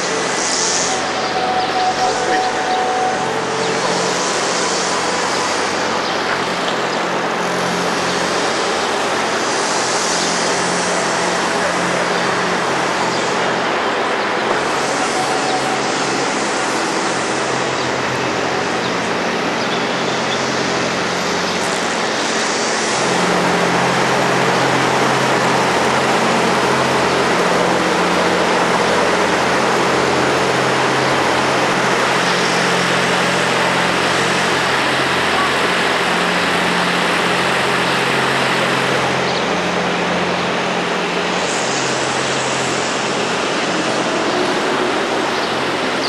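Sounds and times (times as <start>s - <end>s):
rushing outdoor noise: 0.0s - 46.0s.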